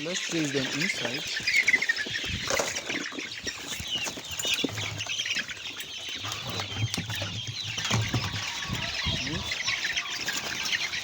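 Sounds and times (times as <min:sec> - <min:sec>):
chickens cheeping and clucking: 0:00.0 - 0:11.0
wings flapping and scuffling: 0:00.0 - 0:11.0.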